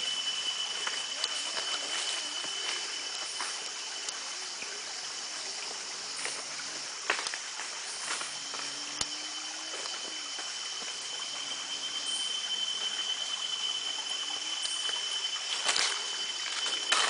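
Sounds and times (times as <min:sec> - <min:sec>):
steady high-pitched tone: 0:00.0 - 0:06.6, 0:07.7 - 0:17.0
even hiss: 0:00.0 - 0:17.0.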